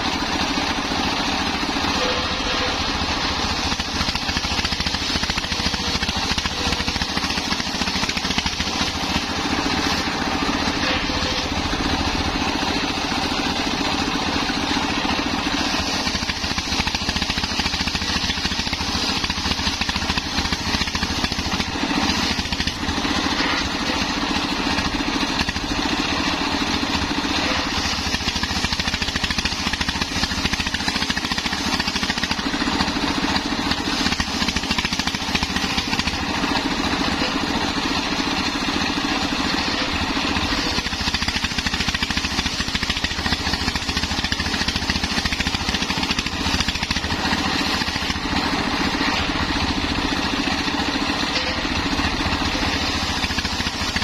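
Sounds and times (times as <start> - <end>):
circular saw cutting wood: 0.0 - 54.0
diesel engine running under load: 0.0 - 54.0.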